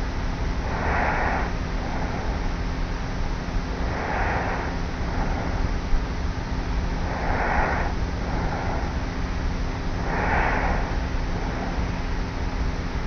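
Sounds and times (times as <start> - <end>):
tape hiss: 0.0 - 13.0
woman breathing with light snores: 0.6 - 6.0, 6.6 - 12.2.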